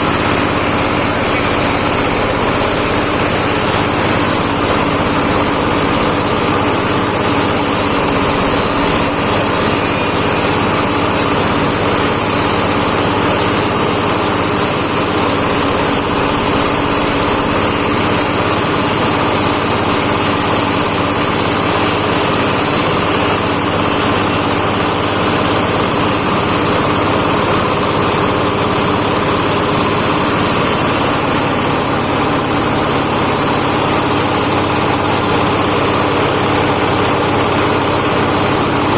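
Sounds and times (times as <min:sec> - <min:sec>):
grinding machine drone: 0:00.0 - 0:38.9.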